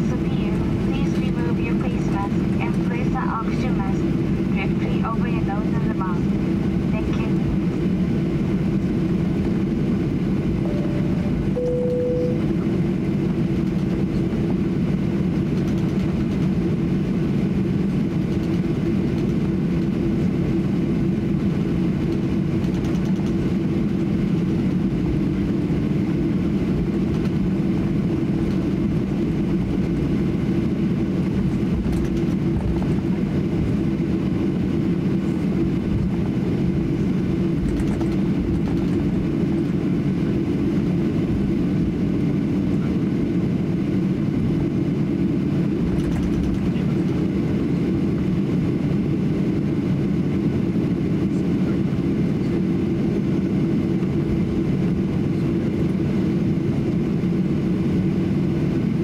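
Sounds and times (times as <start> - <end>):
aircraft cabin engine hum: 0.0 - 59.0.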